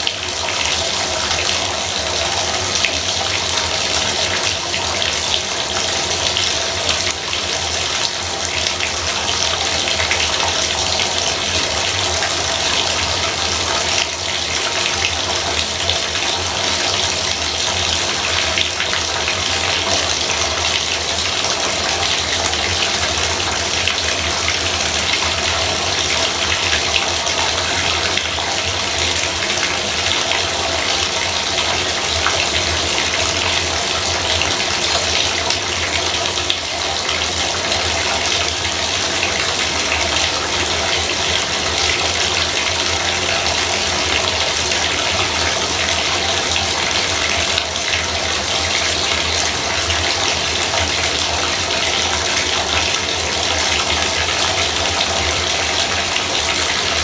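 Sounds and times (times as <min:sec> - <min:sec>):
bathtub faucet running: 0:00.0 - 0:57.0.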